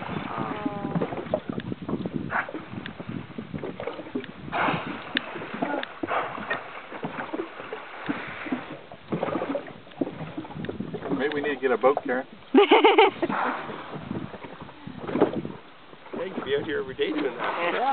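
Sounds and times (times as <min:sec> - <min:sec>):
water lapping against boat hull: 0:00.0 - 0:17.9.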